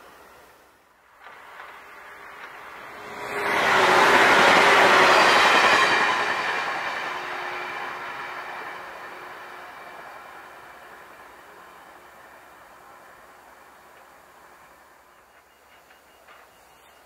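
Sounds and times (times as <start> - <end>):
electric train passing at speed: 0.0 - 17.0.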